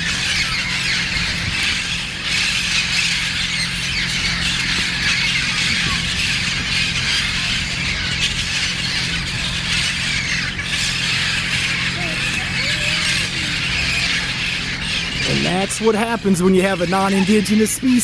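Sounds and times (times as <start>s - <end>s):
flock of parrots squawking: 0.0s - 18.0s.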